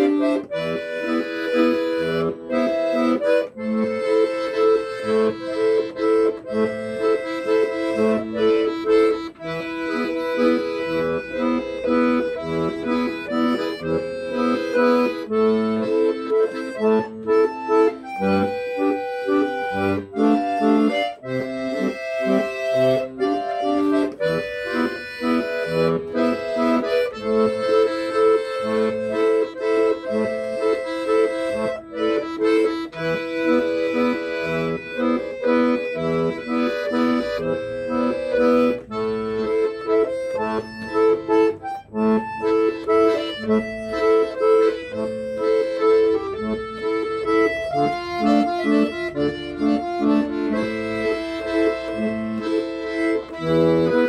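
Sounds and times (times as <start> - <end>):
accordion music: 0.0 - 54.0.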